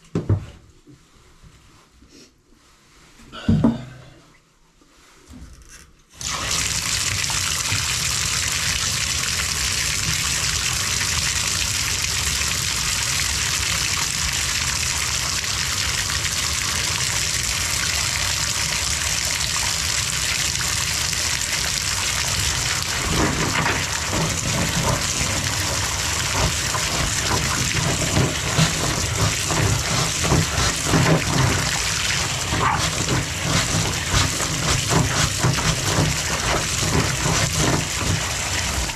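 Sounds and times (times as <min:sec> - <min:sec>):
bathtub faucet running: 0:06.2 - 0:38.9.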